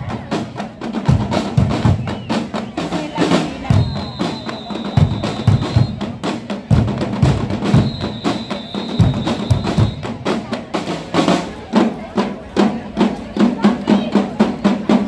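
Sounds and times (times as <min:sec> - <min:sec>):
snare and bass drums playing: 0:00.0 - 0:15.0.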